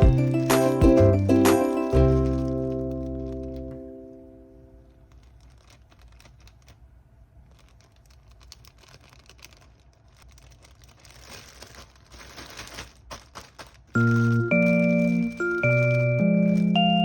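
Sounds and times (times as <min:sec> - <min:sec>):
crinkling and rustling: 0:00.0 - 0:17.0.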